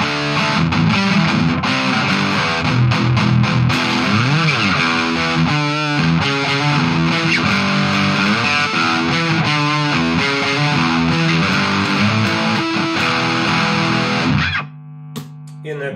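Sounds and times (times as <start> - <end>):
electric guitar lead line: 0.0 - 14.8.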